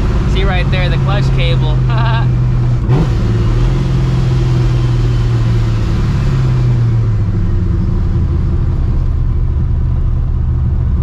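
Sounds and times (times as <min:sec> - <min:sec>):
car engine exhaust drone: 0:00.0 - 0:11.0.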